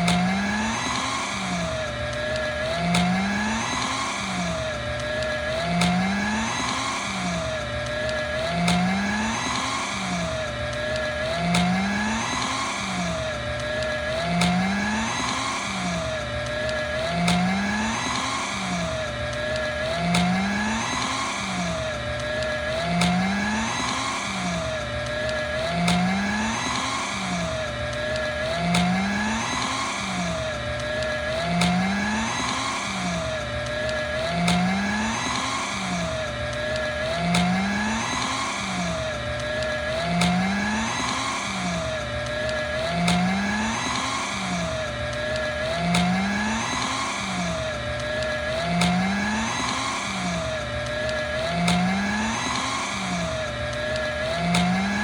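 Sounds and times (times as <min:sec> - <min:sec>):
paper shredder cutting paper: 0:00.0 - 0:55.0.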